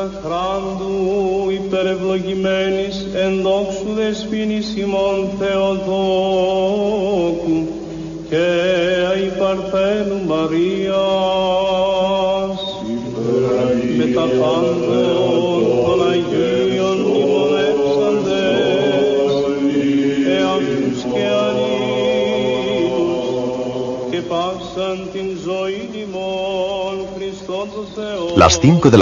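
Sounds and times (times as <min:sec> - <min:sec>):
held vocal drone: 0:00.0 - 0:29.0
voices chanting melismatic lines: 0:03.4 - 0:29.0.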